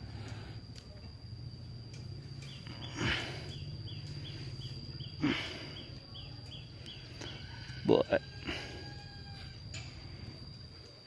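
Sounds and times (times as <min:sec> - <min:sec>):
insect chirping: 0:00.0 - 0:11.0
insects whining: 0:00.0 - 0:11.0.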